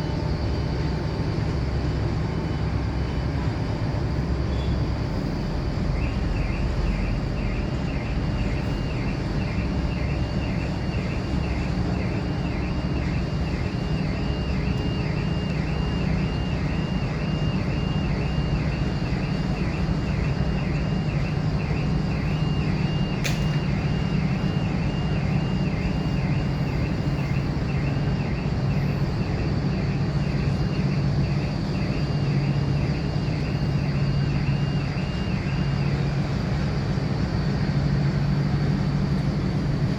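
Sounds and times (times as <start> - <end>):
machinery rumble with low hum: 0.0 - 39.9.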